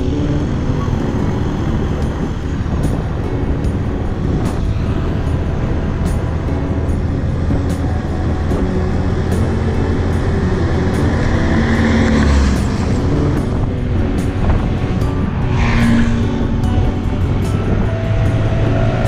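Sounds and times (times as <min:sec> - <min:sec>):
background music with steady beat: 0:00.0 - 0:19.0
car passing by: 0:00.0 - 0:19.0
motorbike engine and road rumble: 0:00.0 - 0:19.0.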